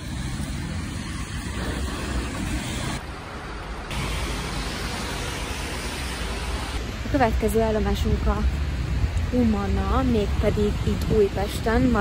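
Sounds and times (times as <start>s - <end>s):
road traffic rush: 0.0s - 12.0s.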